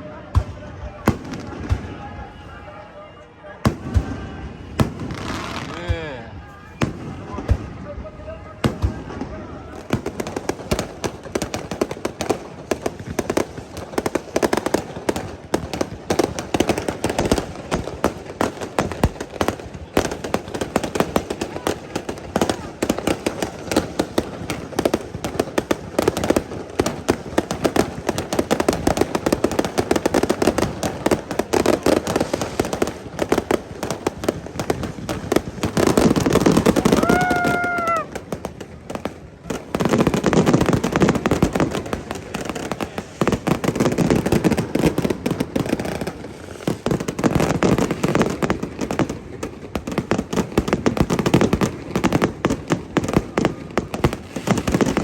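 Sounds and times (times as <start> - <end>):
fireworks crackling and popping: 0.0 - 55.0.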